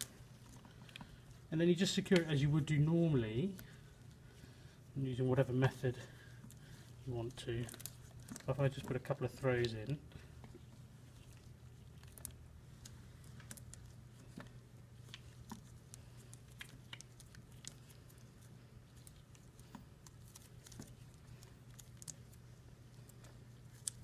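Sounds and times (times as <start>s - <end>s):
small clicks and rustles: 0.0s - 1.4s, 6.2s - 24.0s
steady low hum: 0.0s - 24.0s.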